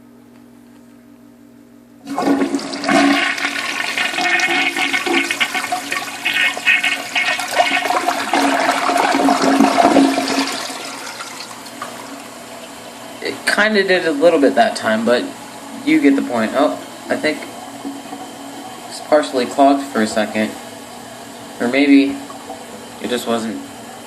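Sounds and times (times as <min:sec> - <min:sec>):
toilet flushing: 0:02.0 - 0:24.0.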